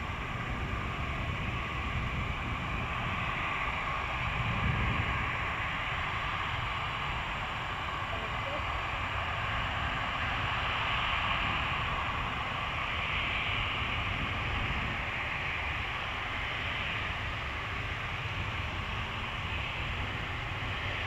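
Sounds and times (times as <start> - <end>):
jet engines roaring: 0.0 - 21.0
wind rumbling on microphone: 0.0 - 21.0.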